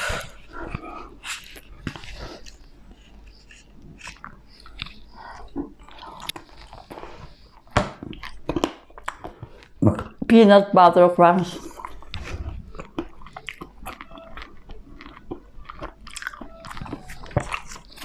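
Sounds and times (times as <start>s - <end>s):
biting and chewing: 0.0s - 10.3s, 11.6s - 18.0s.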